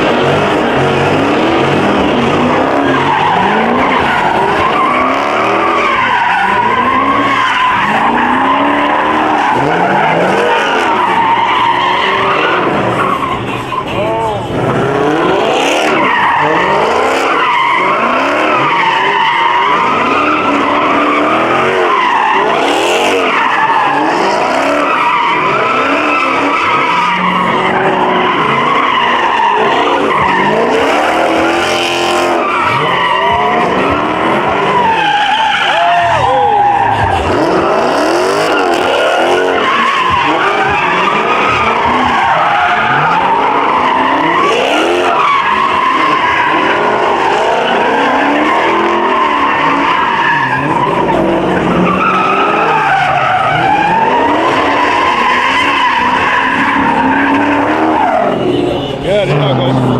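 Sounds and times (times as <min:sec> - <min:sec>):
car engines revving: 0:00.0 - 0:59.9
tyres squealing: 0:00.0 - 0:59.9.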